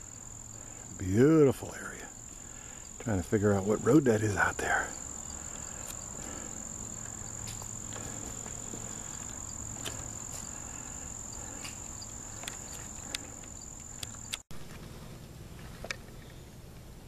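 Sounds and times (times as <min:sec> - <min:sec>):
insects trilling: 0:00.0 - 0:14.5.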